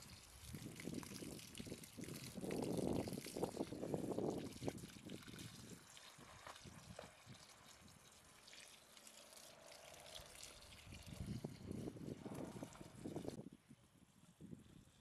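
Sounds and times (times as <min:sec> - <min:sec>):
hose water splashing on gravel: 0:00.0 - 0:13.4.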